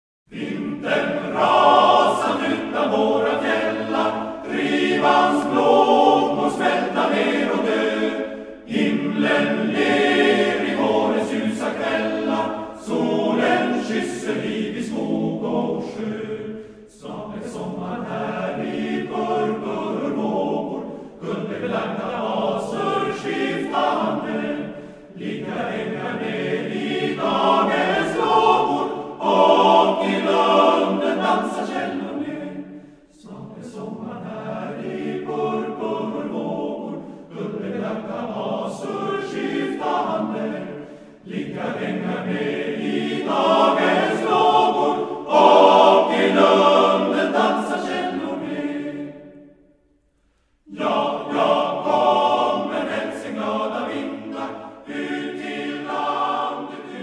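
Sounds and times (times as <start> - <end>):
choir singing: 0.3 - 57.0.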